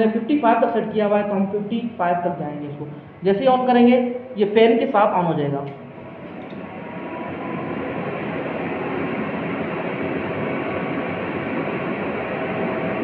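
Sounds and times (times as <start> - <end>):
cooling fan rush of air: 0.0 - 13.0.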